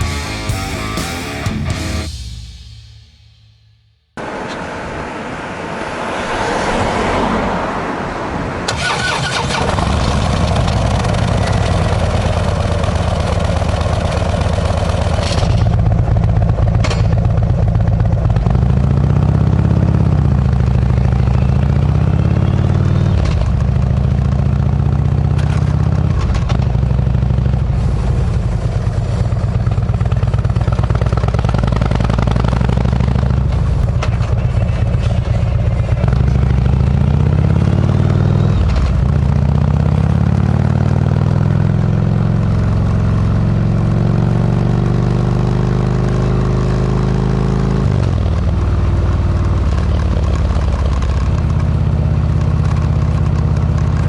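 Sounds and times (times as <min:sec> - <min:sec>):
motorcycle engine starting and running: 0:00.0 - 0:04.7, 0:08.6 - 0:54.0.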